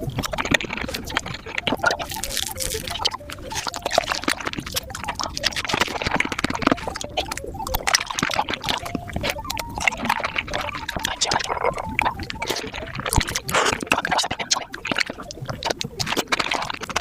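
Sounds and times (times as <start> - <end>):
wet chewing and crunching: 0.0 - 17.0.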